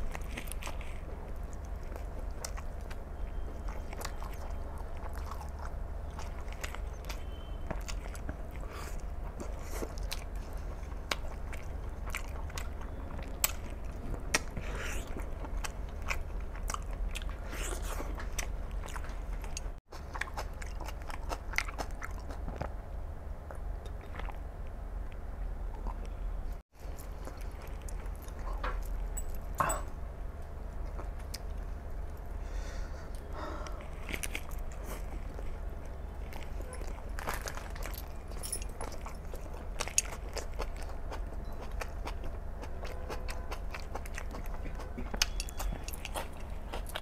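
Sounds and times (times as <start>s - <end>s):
wet chewing and smacking: 0.0s - 22.8s, 23.4s - 30.0s, 30.7s - 32.4s, 33.1s - 47.0s
steady low hum: 0.0s - 47.0s.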